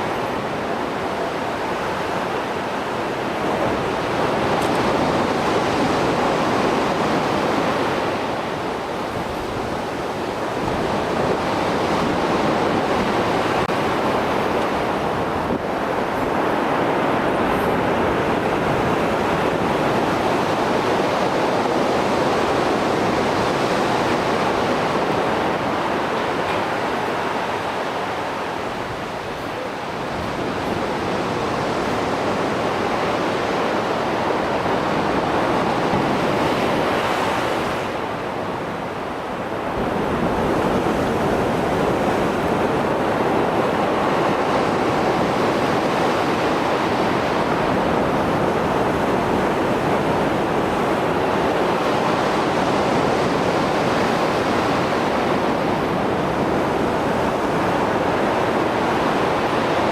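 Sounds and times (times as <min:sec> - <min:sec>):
waves breaking and washing ashore: 0:00.0 - 0:59.9.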